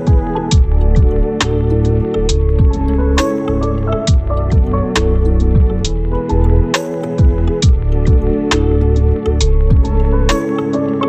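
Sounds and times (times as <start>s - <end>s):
music with a steady beat: 0.0s - 11.0s
deep bass hits: 0.1s - 10.4s.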